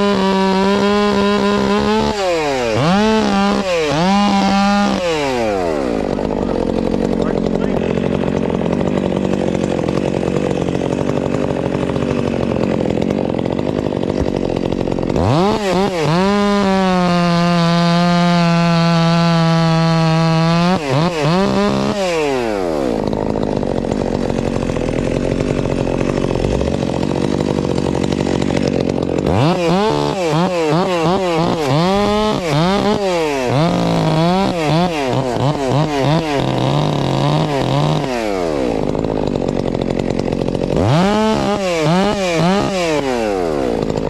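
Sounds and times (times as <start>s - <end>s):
chainsaw revving: 0.0s - 44.0s.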